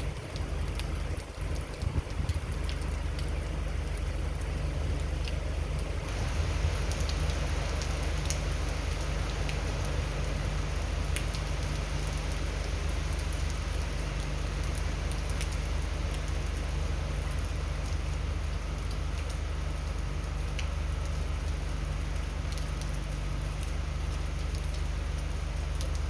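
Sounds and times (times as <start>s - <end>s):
heavy rain falling: 0.0s - 26.0s
sharp ticks of raindrops: 0.0s - 26.0s.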